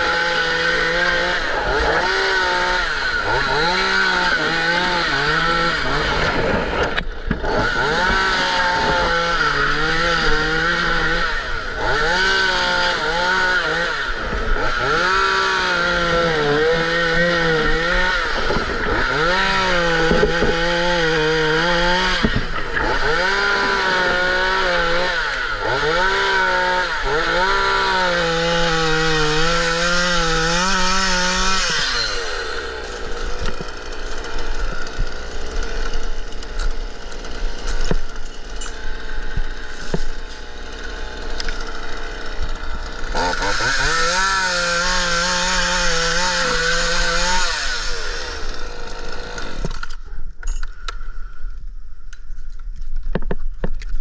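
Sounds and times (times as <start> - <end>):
chainsaw cutting palm fronds: 0.0 - 50.4.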